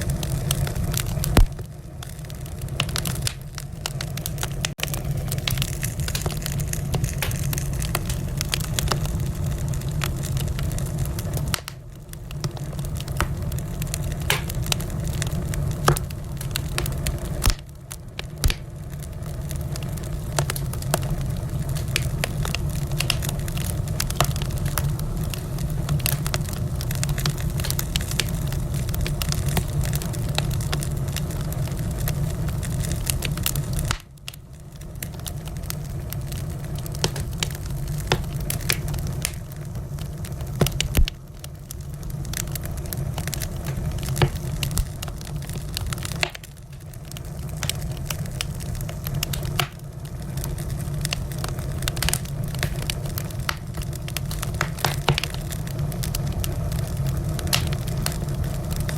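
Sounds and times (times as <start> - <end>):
low rumble of flames: 0.0 - 58.9
wood fire crackling: 0.0 - 58.9.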